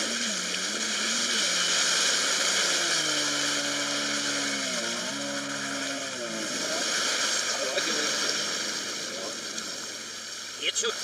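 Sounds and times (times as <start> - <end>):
reversed jet ski engine: 0.0 - 11.0
rush of spray: 0.0 - 11.0.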